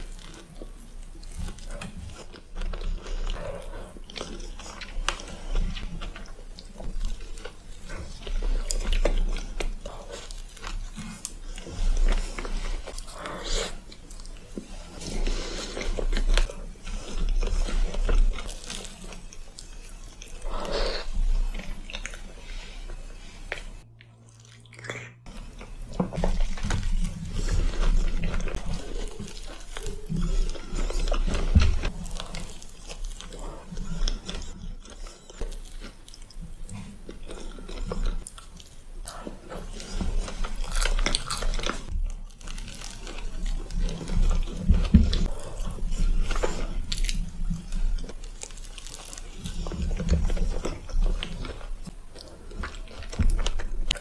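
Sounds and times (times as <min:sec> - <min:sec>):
pastry crackling while chewed: 0:00.0 - 0:54.0.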